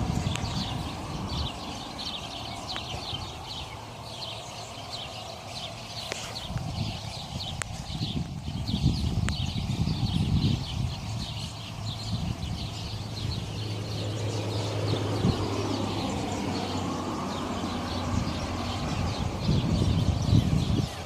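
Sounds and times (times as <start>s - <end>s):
nesting birds chirping: 0.0s - 21.0s
vehicle passing hum: 0.0s - 21.0s.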